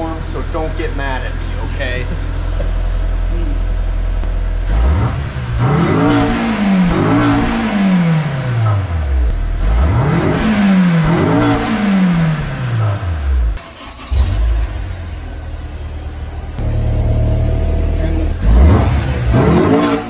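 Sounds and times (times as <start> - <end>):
car engine idling: 0.0 - 20.0
car engine revving: 0.0 - 20.0.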